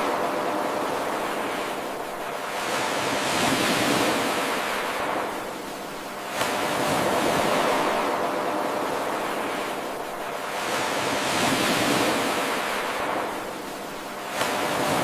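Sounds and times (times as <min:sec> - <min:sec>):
ocean waves washing onto shore: 0:00.0 - 0:15.0.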